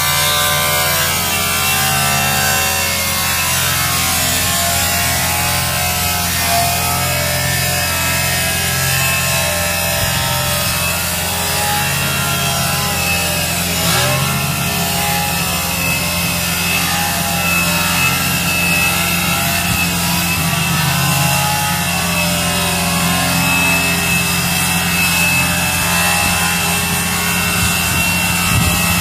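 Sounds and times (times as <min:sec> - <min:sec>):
power tool cutting metal: 0:00.0 - 0:29.0.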